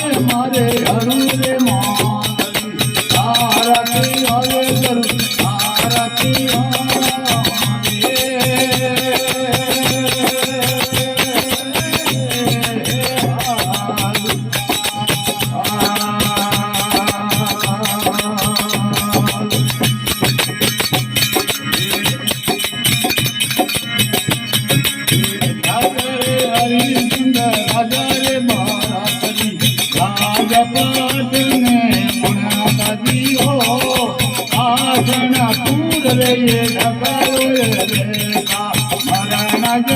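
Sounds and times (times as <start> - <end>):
jingling hand percussion: 0.0 - 39.9.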